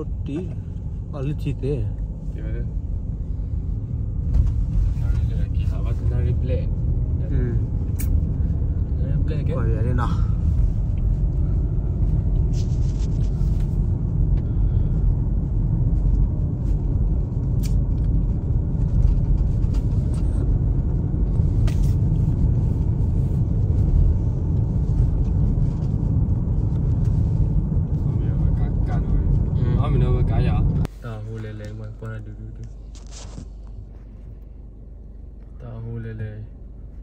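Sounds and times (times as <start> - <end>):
vehicle road rumble: 0.0 - 37.0.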